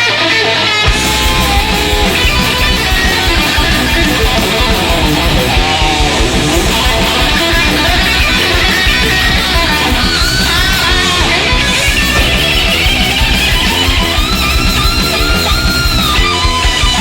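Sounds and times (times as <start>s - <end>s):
guitar-driven music with a beat: 0.0s - 17.0s.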